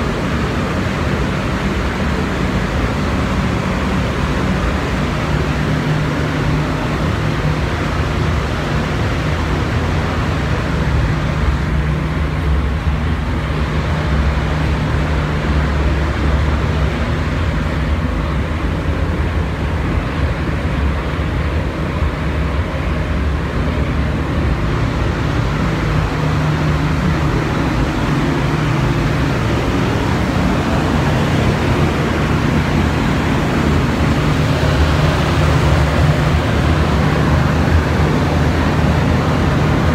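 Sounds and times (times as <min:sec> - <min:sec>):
low hum: 0:00.0 - 0:39.9
ventilation fans rushing air: 0:00.0 - 0:39.9.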